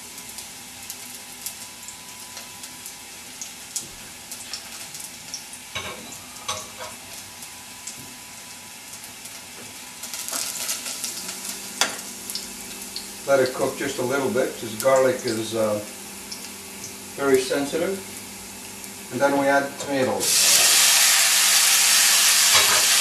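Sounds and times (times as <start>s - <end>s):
garlic sizzling in hot oil: 0.0s - 23.0s.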